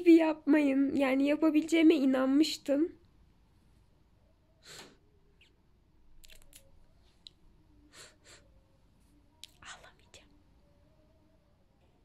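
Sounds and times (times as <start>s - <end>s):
faint soft noises: 0.0s - 12.0s.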